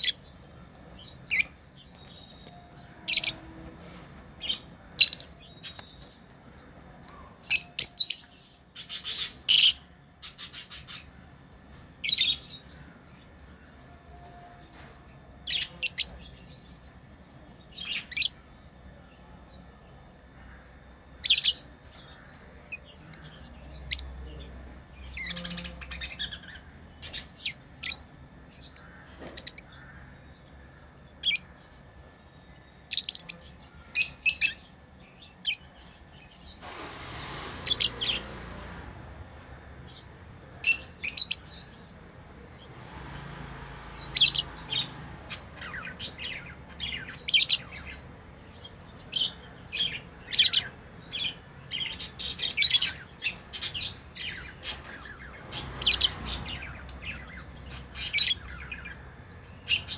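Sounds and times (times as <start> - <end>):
lovebirds chirping: 0.0 - 11.4, 12.0 - 37.0, 37.6 - 59.9.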